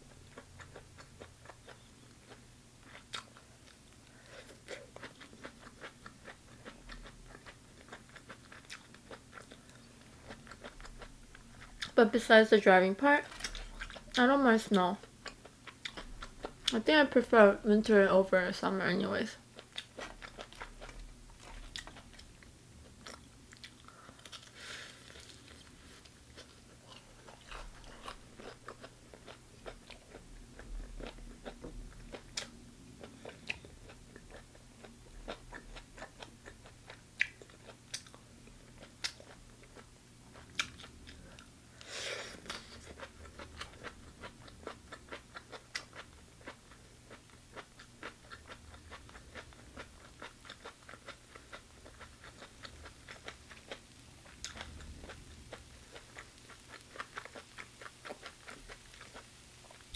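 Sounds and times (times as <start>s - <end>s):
chewing with crisp crunches: 0.0s - 12.1s, 12.9s - 17.6s, 19.2s - 59.9s.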